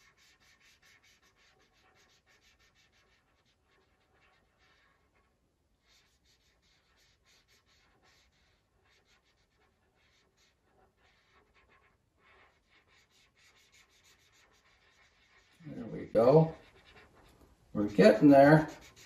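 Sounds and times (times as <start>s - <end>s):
marker scratching on paper: 0.0s - 19.0s.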